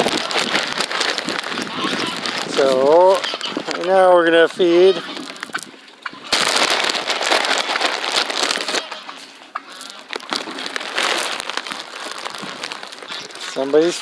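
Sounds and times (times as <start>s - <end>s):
bag crinkling and rustling: 0.0s - 14.0s.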